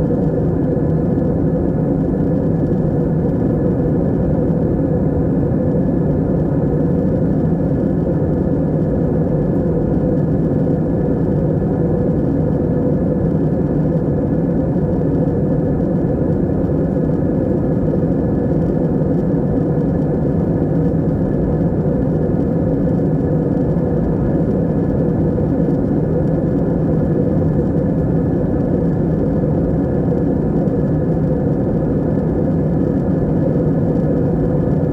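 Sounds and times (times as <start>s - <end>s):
airplane cabin drone: 0.0s - 34.9s.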